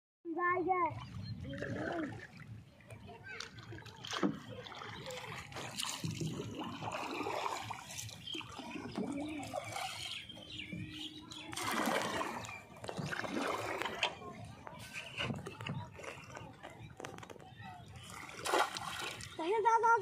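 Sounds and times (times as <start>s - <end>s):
churning splashes: 0.8s - 20.0s
paddle splashing water: 0.9s - 19.8s.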